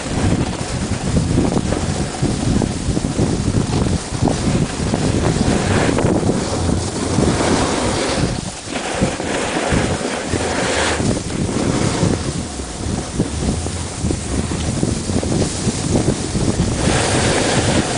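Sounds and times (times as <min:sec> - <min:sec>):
snow sliding hiss: 0:00.0 - 0:17.9
wind buffeting microphone: 0:00.0 - 0:17.9.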